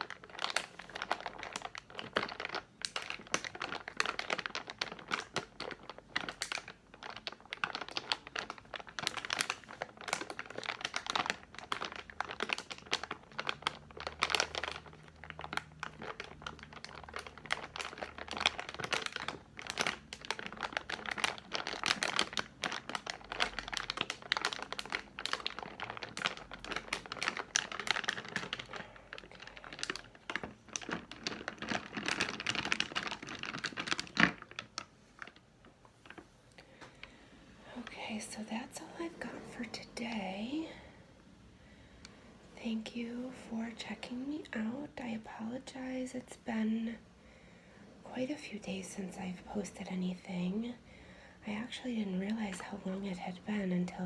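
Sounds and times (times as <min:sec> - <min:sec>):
candy wrapper crinkling: 0:00.0 - 0:40.9, 0:51.5 - 0:54.0.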